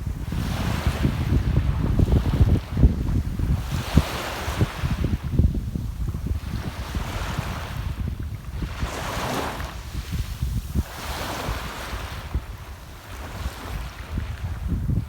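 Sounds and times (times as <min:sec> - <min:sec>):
small waves washing ashore: 0:00.0 - 0:15.0
wind buffeting microphone: 0:00.0 - 0:15.0.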